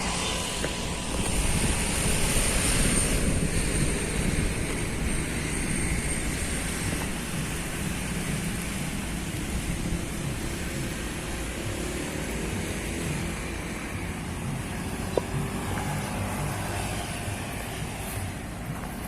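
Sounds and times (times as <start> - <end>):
vehicle rumble: 0.0 - 19.0.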